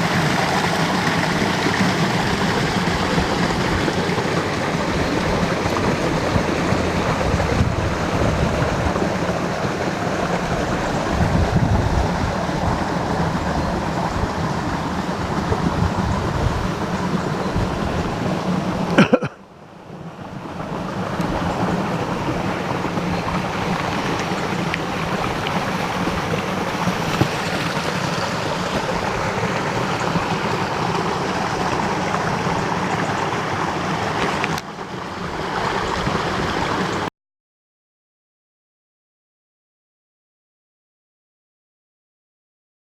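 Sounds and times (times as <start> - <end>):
stream water rushing: 0.0 - 37.1.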